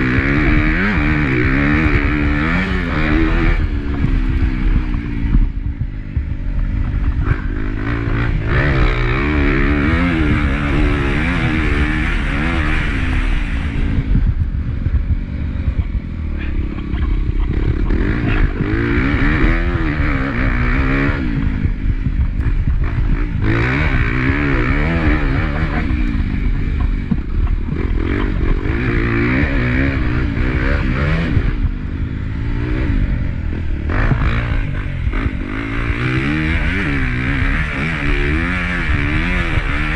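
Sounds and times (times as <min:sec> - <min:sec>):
motorcycle engine revving: 0:00.0 - 0:39.9
rushing wind: 0:00.0 - 0:39.9.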